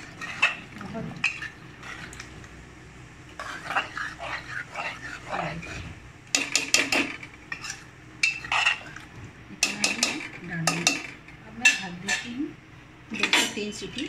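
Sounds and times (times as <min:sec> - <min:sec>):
ladle scraping pot: 0:00.0 - 0:02.3, 0:03.3 - 0:12.4.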